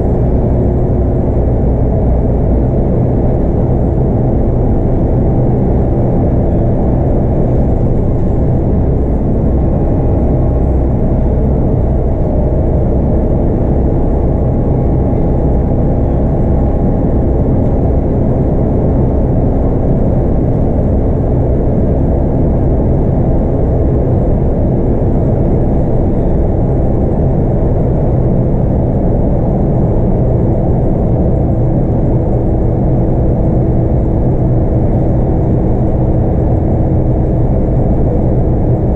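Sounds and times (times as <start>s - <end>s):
bus diesel engine running: 0.0s - 38.9s
road and tyre noise: 0.0s - 38.9s.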